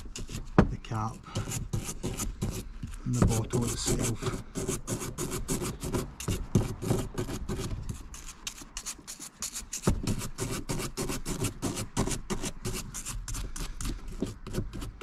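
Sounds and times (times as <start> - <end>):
brush scrubbing a plastic bottle: 0.0 - 15.0.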